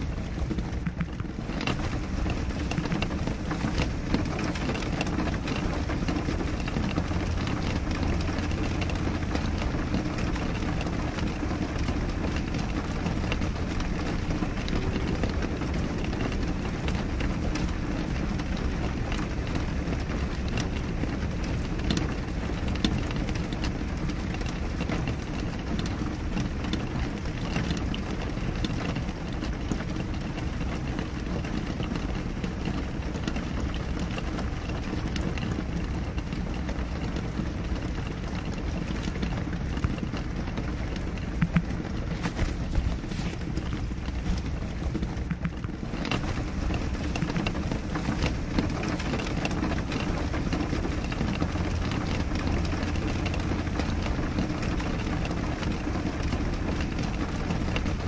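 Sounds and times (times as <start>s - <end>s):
rain on a window: 0.0s - 58.0s
raindrops ticking on glass: 0.0s - 58.0s.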